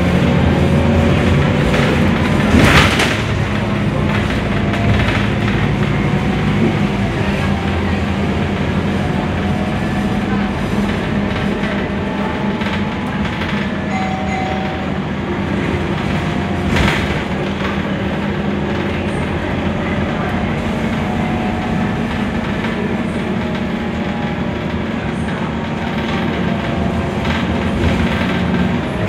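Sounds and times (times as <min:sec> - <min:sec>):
bus body and road rattle: 0:00.0 - 0:29.0
low engine drone: 0:00.0 - 0:29.0.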